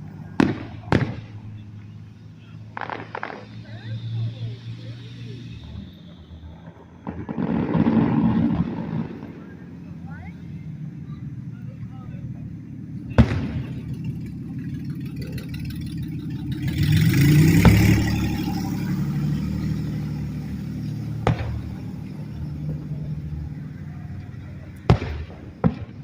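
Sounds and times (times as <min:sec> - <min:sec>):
fireworks bangs: 0:00.0 - 0:26.0
low rumble: 0:00.0 - 0:26.0.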